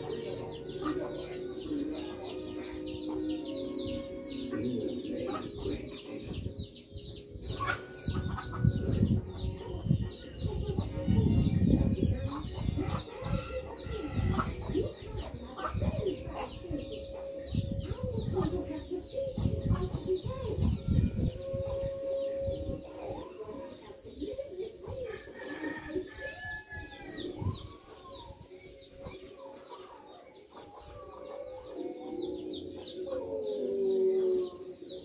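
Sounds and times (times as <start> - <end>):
chickens clucking: 0.0 - 35.0
small birds chirping: 0.0 - 35.0.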